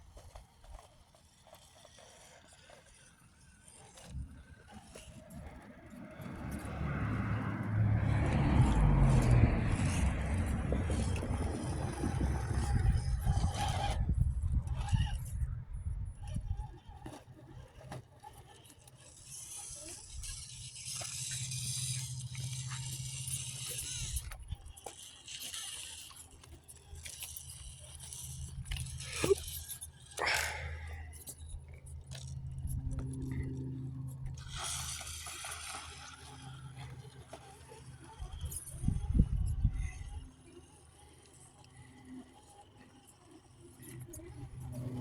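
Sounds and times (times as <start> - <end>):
electric motor and gear whir: 0.0 - 45.0.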